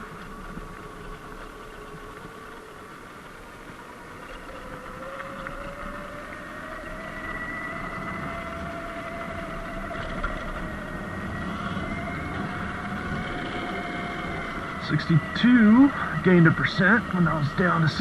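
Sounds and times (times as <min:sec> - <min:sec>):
electric motor whining: 0:00.0 - 0:18.0
tyre and wind noise: 0:00.0 - 0:18.0.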